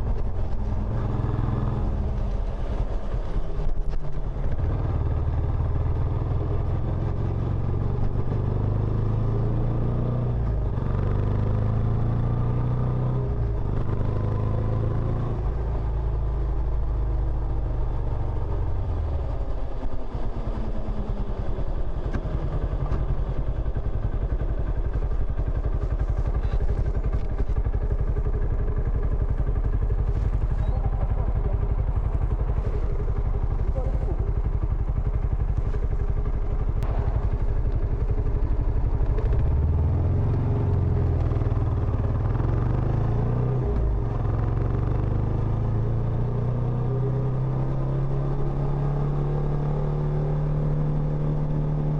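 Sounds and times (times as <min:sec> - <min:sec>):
single-cylinder motorcycle engine: 0:00.0 - 0:51.9.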